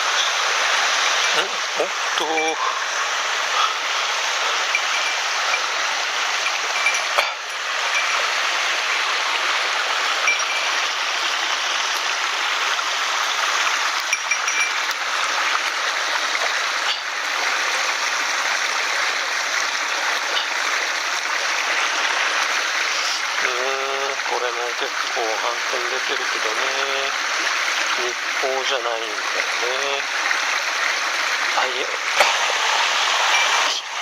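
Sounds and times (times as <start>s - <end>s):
stream flowing: 0.0s - 34.0s.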